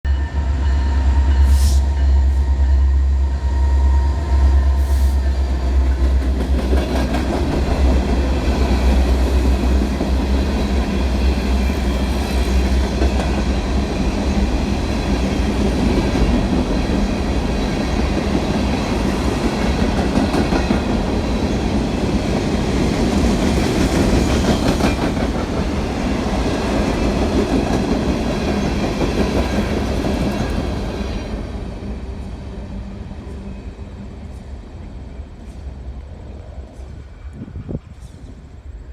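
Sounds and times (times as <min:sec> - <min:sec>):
train rumbling on rails: 0:00.1 - 0:38.9
wheels clickety-clack on rails: 0:05.2 - 0:38.8.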